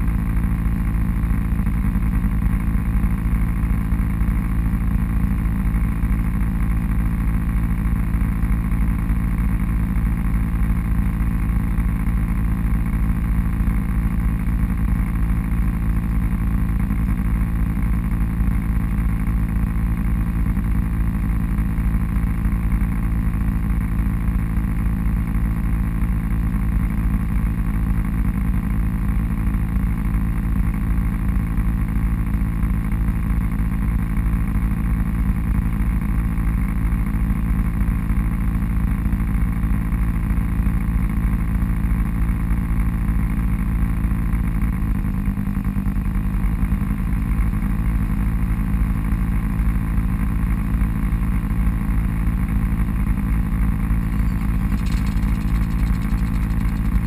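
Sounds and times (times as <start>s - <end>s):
off-road vehicle engine running: 0.0s - 57.0s.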